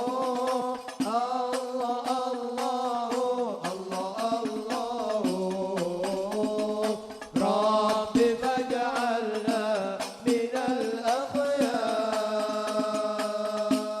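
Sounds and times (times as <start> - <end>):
devotional group singing: 0.0 - 14.0
frame drums beating: 0.0 - 14.0.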